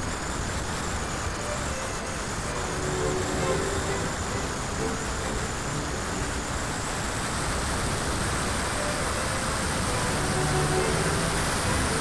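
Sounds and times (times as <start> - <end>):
faint high steady whine: 0.0 - 12.0
wind rush: 0.0 - 12.0
propeller noise: 1.4 - 12.0.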